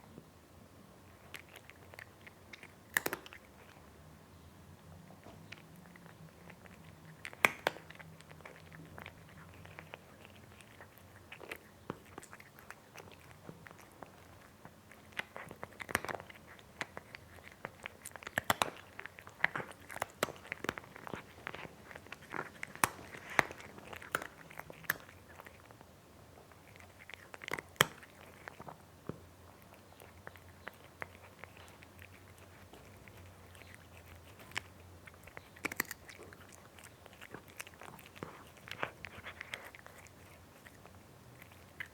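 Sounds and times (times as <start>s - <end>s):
cat eating and chewing: 0.0s - 41.9s.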